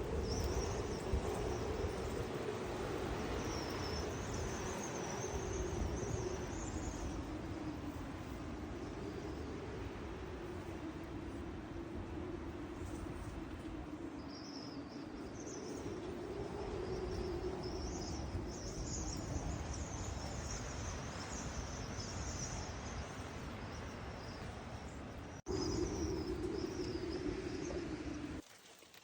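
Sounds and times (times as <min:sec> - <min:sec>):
gusty wind on microphone: 0:00.0 - 0:28.4.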